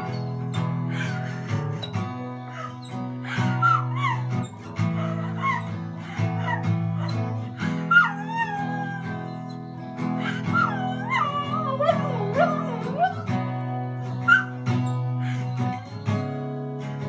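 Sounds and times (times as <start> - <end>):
strummed acoustic guitar: 0.0 - 17.0
puppy howling: 0.1 - 13.6, 14.2 - 15.0.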